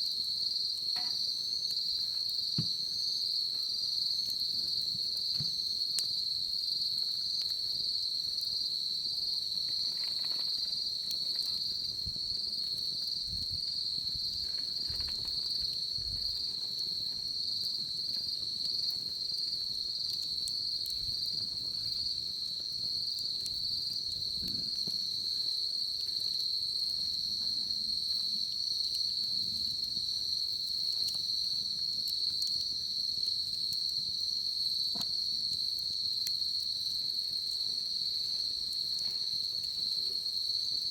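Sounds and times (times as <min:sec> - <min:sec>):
bonfire crackling: 0:00.0 - 0:40.9
crickets chirping: 0:00.0 - 0:40.9.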